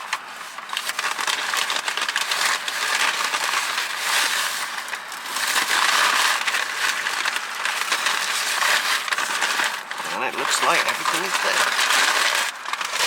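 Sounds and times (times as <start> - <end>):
paper bag and wrappers rustling: 0.0 - 13.0.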